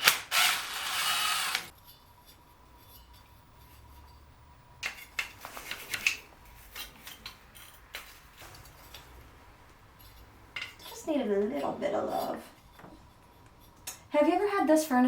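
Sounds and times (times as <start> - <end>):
hand tools and metal parts rattling: 0.0 - 14.1.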